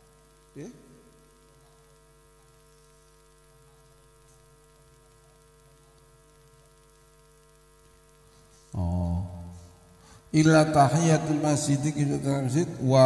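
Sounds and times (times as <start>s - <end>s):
faint electrical hum with hiss: 0.0s - 13.0s.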